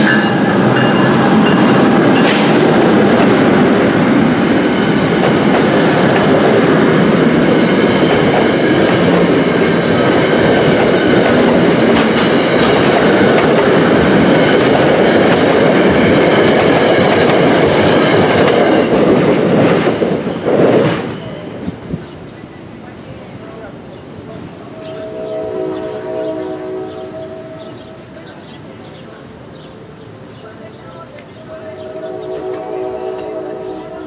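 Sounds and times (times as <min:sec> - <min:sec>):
train coaches rumbling past: 0:00.0 - 0:34.0.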